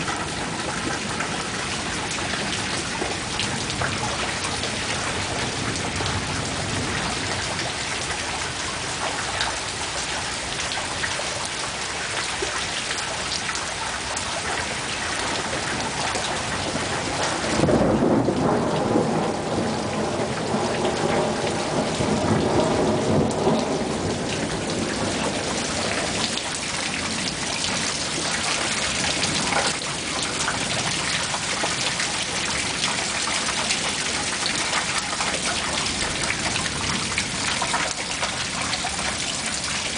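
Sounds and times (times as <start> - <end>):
thunder clap and rumble: 0.0 - 9.7, 14.8 - 39.9
heavy rain falling: 0.0 - 39.9.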